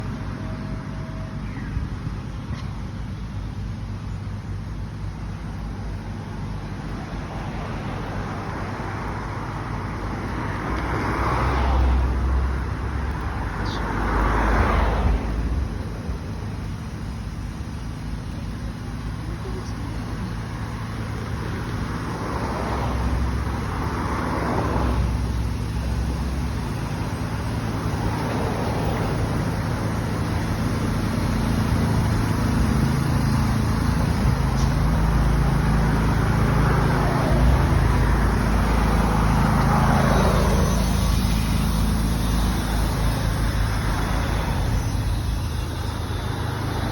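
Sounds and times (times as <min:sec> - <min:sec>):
road noise: 0:00.0 - 0:46.9
vehicle engine rumble: 0:00.0 - 0:46.9.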